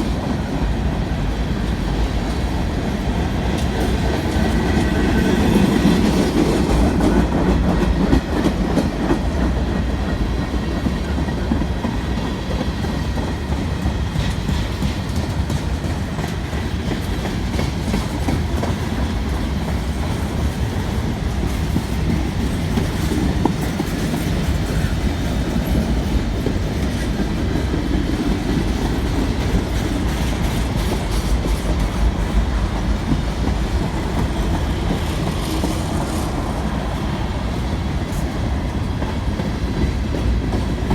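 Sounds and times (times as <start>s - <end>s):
freight train wheels rumbling: 0.0s - 40.9s
wheels clickety-clack over rail joints: 0.0s - 40.9s.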